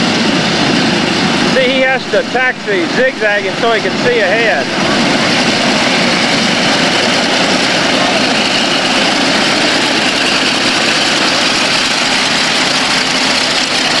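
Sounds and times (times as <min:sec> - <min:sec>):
propeller airplane piston engine: 0:00.0 - 0:14.0.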